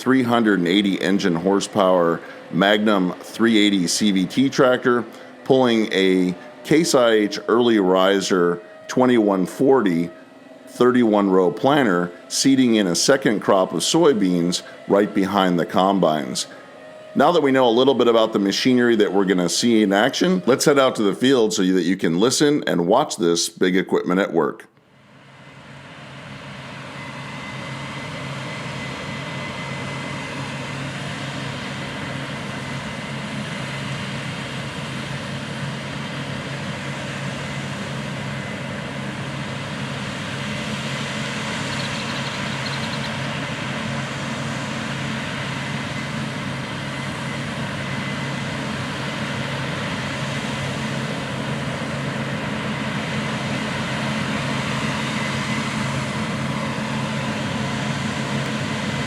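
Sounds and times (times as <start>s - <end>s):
heavy diesel engines running: 0.0s - 23.3s, 25.1s - 59.0s
constant high whine: 0.0s - 59.0s.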